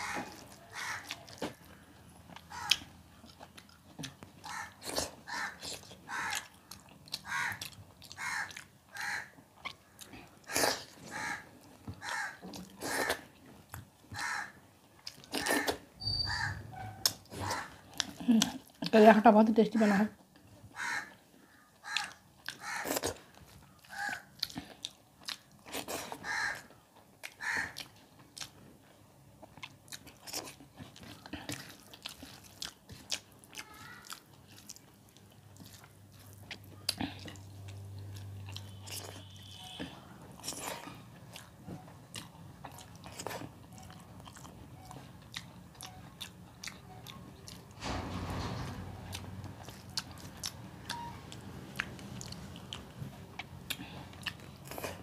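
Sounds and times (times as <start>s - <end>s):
person chewing food: 0.0s - 18.9s, 20.2s - 47.7s, 49.1s - 55.0s.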